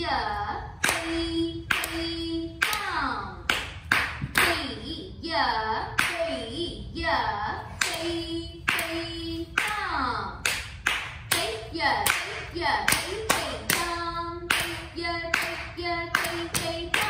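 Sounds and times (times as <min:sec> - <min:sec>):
voice chanting rhythm syllables: 0:00.0 - 0:17.0.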